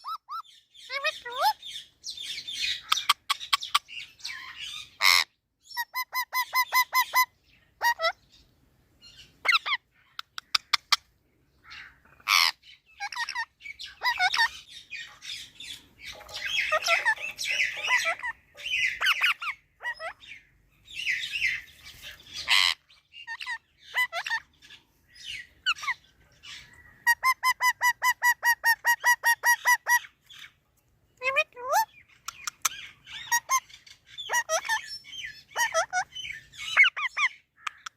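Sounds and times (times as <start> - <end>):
parrot squawking and chattering: 0.0 - 8.4, 9.2 - 30.6, 31.2 - 37.9.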